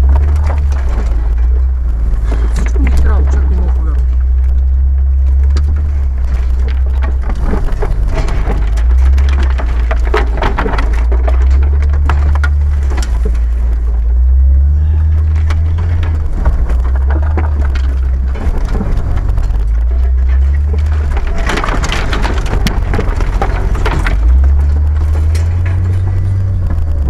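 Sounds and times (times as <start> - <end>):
branches scraping and snapping: 0.0 - 27.0
engine deep rumble: 0.0 - 27.0.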